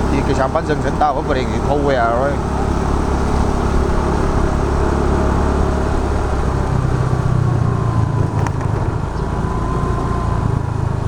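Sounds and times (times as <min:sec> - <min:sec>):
road noise: 0:00.0 - 0:11.0
scooter engine humming: 0:00.0 - 0:11.0.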